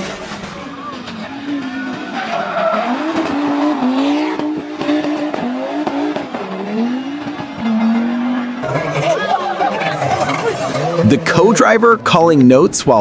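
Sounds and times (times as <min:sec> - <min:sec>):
rally car engine at full throttle: 0:00.0 - 0:12.1.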